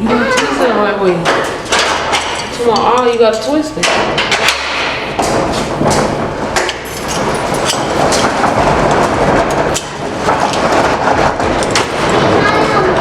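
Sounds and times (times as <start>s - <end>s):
metal roll-up door rattling: 0.1s - 13.0s.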